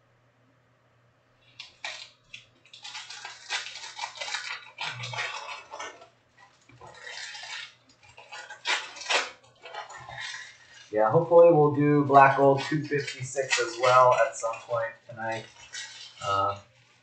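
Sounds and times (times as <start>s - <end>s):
foil wrappers crinkling: 1.4s - 17.0s.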